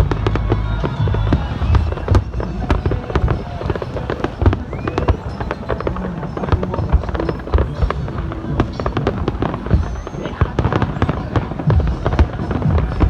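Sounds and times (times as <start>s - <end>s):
fireworks bangs and crackles: 0.0s - 13.0s
music: 0.0s - 13.0s.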